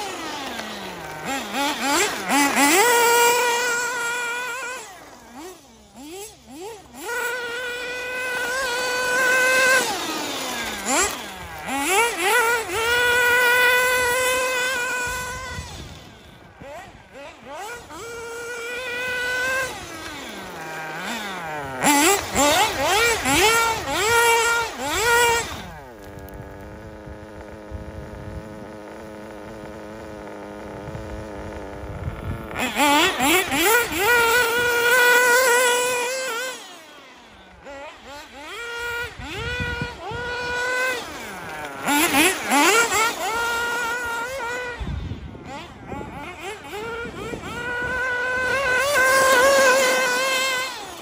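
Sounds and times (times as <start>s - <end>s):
nitro engine revving: 0.0s - 51.0s.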